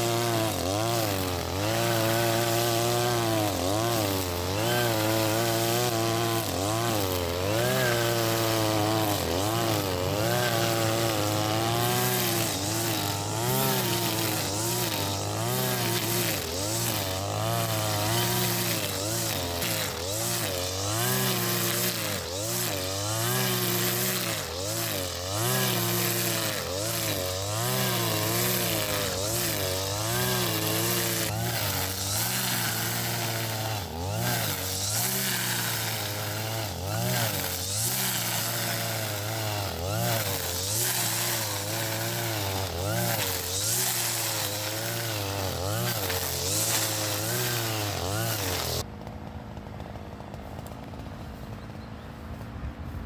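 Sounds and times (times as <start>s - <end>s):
brush cutter engine cutting grass: 0.0s - 53.0s.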